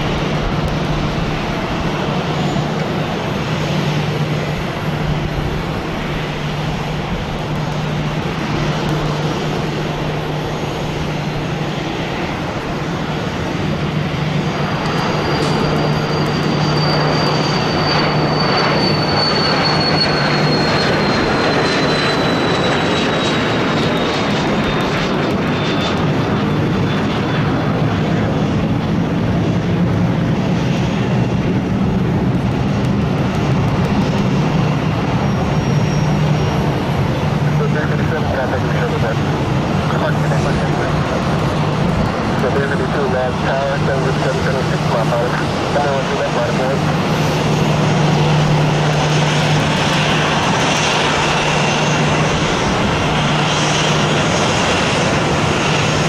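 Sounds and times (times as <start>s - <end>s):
high jet whine falling in pitch: 0.0s - 29.5s, 31.1s - 56.0s
jet rumble: 0.0s - 56.0s.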